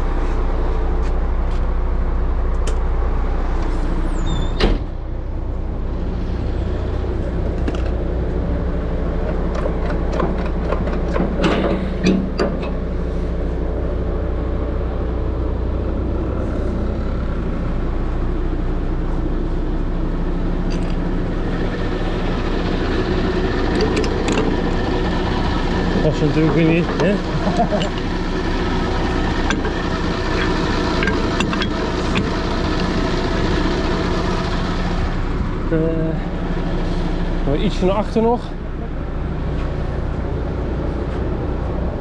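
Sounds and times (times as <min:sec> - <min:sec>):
truck diesel engine running: 0:04.9 - 0:42.0.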